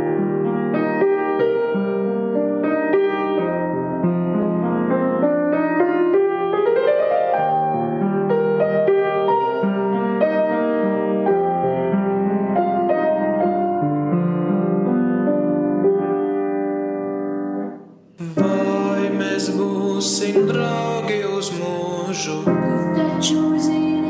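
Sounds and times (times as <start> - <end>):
piano playing: 0.0 - 24.0.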